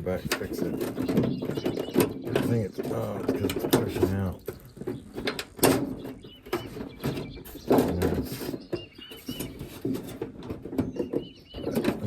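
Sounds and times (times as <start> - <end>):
bird chirping: 0.0 - 12.0
gutter parts clicking and knocking: 0.0 - 12.0.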